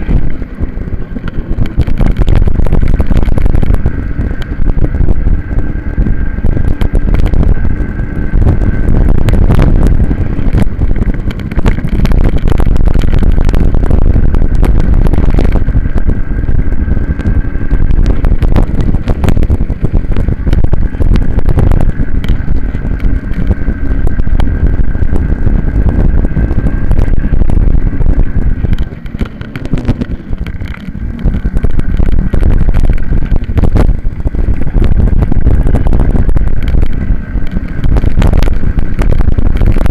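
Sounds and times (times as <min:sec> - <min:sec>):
minibike engine racing: 0:00.0 - 0:39.9
wind buffeting on microphone: 0:00.0 - 0:39.9.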